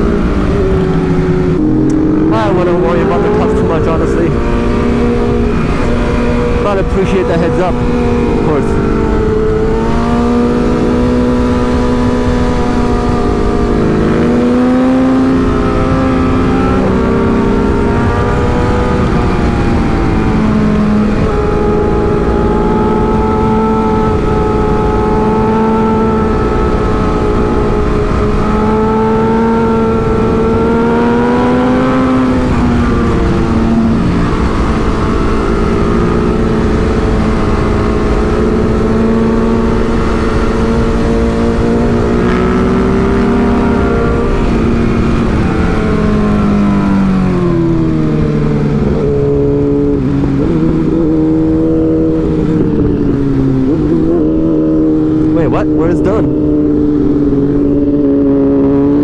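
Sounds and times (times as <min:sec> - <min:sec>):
motorcycle engine revving: 0:00.0 - 0:59.0
wind rush on microphone: 0:00.0 - 0:59.0.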